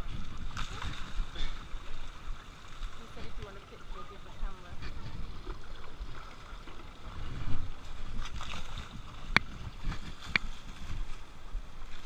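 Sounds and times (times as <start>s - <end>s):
river water splashing: 0.0s - 12.0s.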